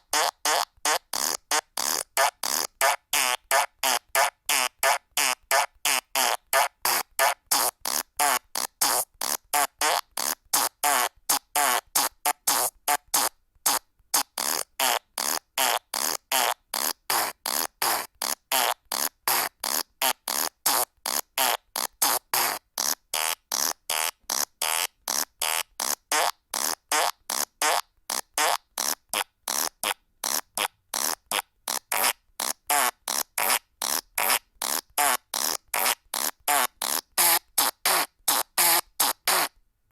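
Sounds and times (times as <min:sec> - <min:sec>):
fart sound effects: 0:00.1 - 0:39.6.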